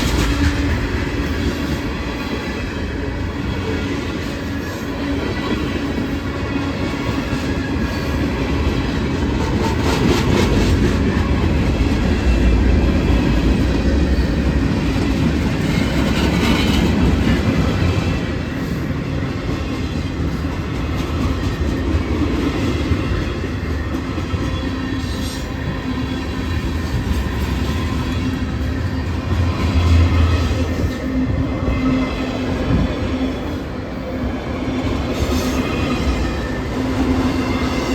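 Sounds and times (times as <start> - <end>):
steel wheels clattering on rails: 0.0 - 33.7
freight train cars rumbling: 0.0 - 37.9.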